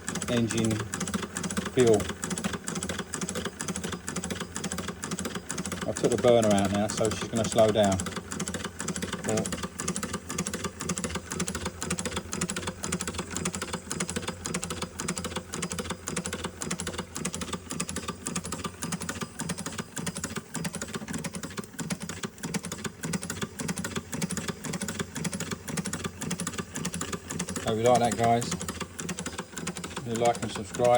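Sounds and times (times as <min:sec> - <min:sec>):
toy steam engine ticking: 0:00.0 - 0:30.9.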